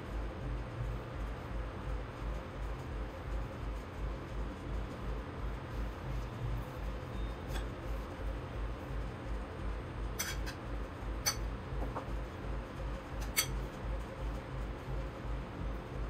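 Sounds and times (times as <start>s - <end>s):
low pulsing hum: 0.0s - 16.0s.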